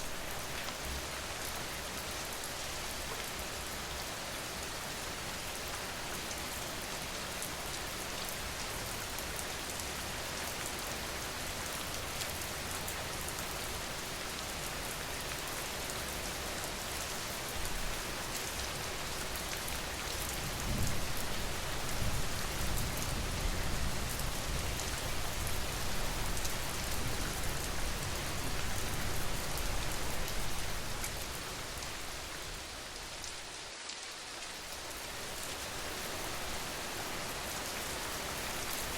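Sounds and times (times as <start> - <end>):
rain falling on a surface: 0.0 - 38.9.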